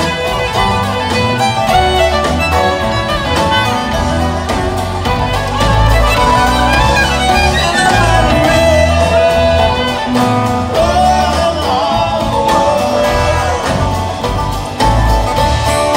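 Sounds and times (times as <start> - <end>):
bass: 0.0 - 15.9
fiddle melody: 0.0 - 15.9
strummed acoustic guitars: 0.0 - 15.9.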